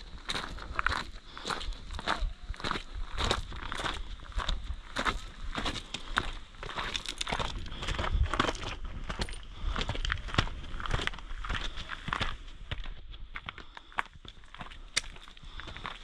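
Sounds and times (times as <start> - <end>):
footsteps on rough outdoor path: 0.0 - 16.0.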